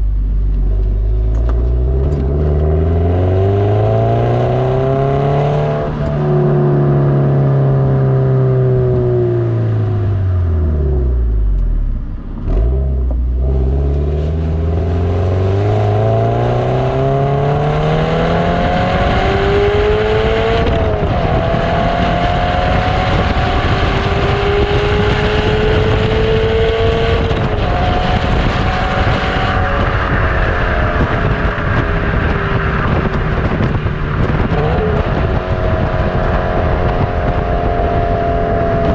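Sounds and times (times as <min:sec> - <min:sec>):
wind noise: 0:00.0 - 0:11.6, 0:12.4 - 0:38.9
car engine revving: 0:00.0 - 0:38.9
road noise: 0:00.0 - 0:38.9.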